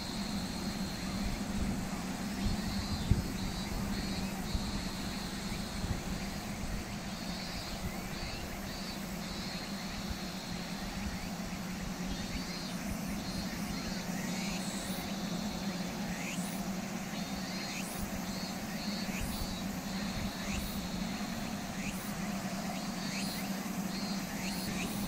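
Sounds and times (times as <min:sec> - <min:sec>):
outdoor noise: 0:00.0 - 0:25.0
pulsing high-pitched buzz: 0:00.0 - 0:25.0.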